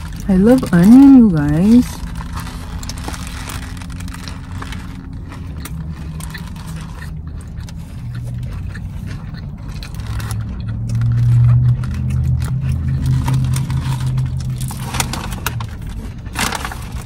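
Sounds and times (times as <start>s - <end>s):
low vehicle hum: 0.0s - 17.0s
person chewing: 0.0s - 17.0s.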